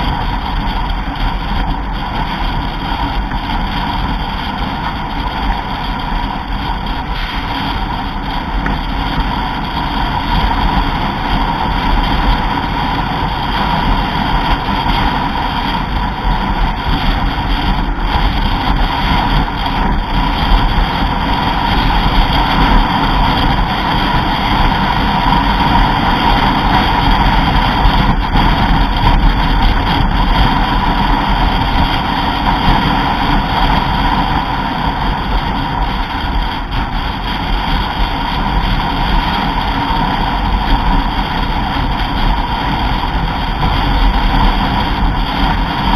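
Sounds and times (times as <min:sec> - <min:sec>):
vehicle driving at speed: 0:00.0 - 0:45.9.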